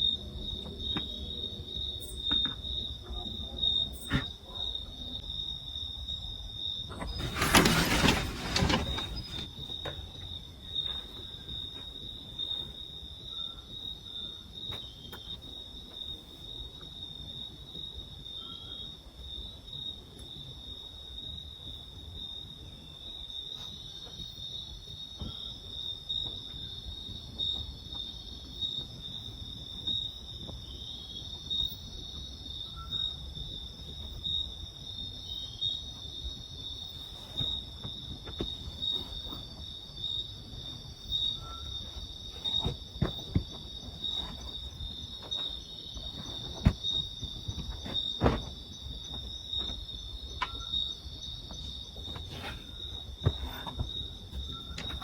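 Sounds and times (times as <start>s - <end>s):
pulsing insect chorus: 0.0s - 55.0s.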